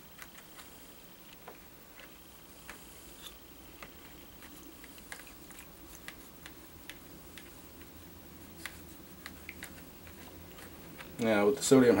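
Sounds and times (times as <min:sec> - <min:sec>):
small clicks and scrapes: 0:00.0 - 0:11.3
low steady hum: 0:00.0 - 0:12.0.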